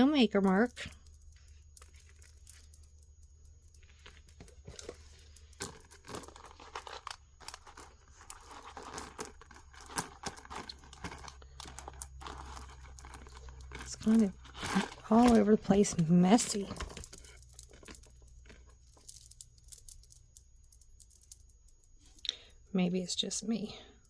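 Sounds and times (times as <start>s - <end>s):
beads and metal clicking: 0.0s - 22.6s
packaging crinkling and rustling: 0.5s - 21.5s.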